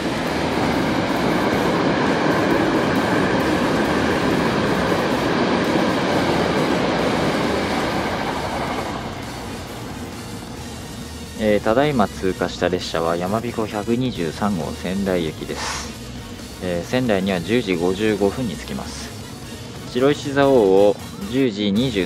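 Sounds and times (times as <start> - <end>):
train running past: 0.0 - 22.0.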